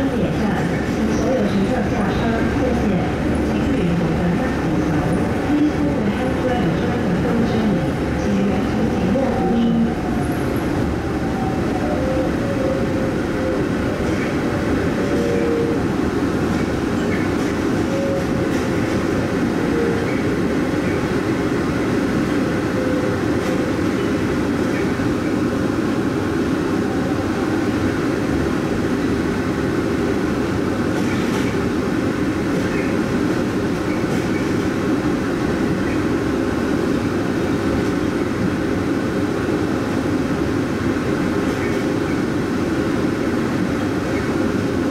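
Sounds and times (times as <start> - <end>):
shuttle train rumbling in tunnel: 0.0 - 44.9.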